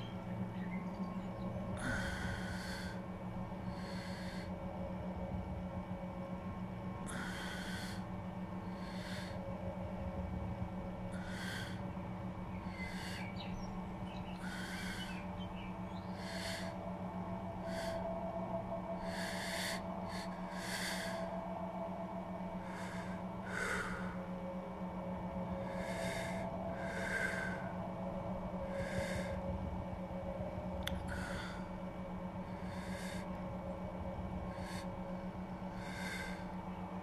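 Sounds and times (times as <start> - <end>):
steady low hum: 0.0 - 37.0
person breathing heavily: 1.7 - 4.9, 7.0 - 9.9, 11.1 - 37.0.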